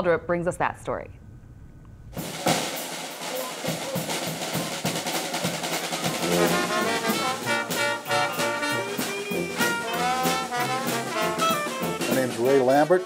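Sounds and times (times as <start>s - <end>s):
brass band playing: 2.2s - 13.0s
snare drum beating: 2.2s - 13.0s
trumpet: 2.2s - 13.0s.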